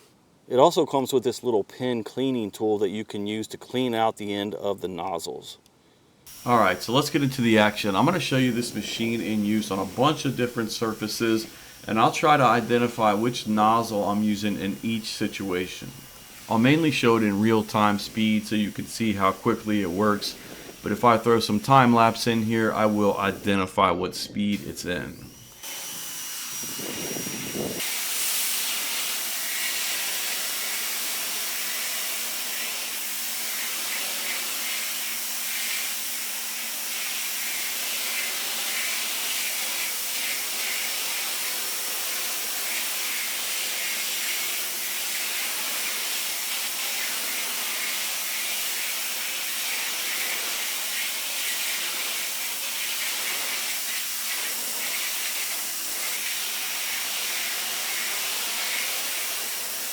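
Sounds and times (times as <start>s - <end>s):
pressure washer water jet hiss: 6.3s - 23.7s, 24.4s - 59.9s.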